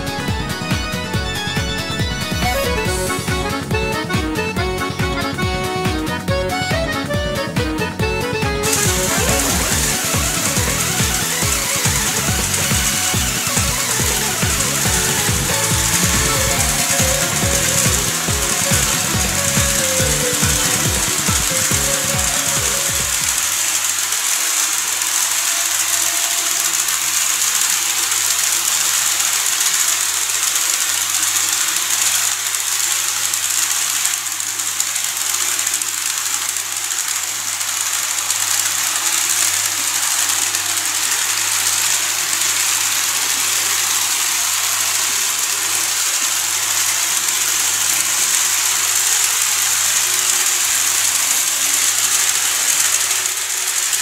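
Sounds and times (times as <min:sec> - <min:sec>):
model trains whirring on track: 0:00.0 - 0:54.0.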